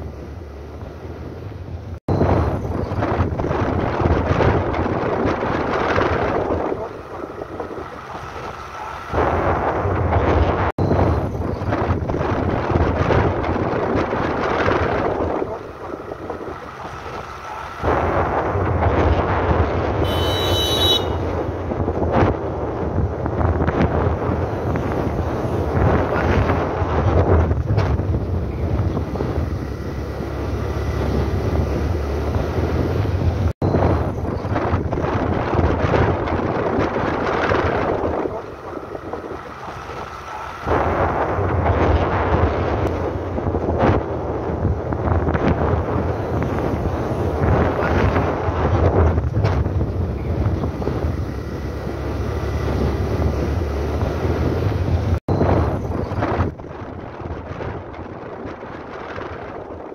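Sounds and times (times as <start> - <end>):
wind rushing over microphone: 0.0 - 59.9
motorcycle engine running: 2.2 - 57.8.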